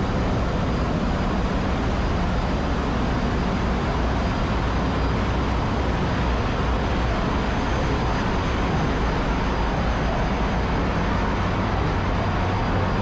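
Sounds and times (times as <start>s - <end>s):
engine room machinery roar: 0.0s - 13.0s.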